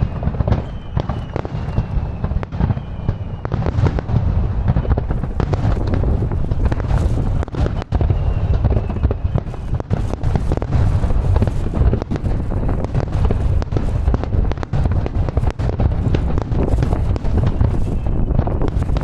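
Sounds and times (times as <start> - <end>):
fireworks bursting: 0.0 - 19.0
wind buffeting microphone: 0.0 - 19.0.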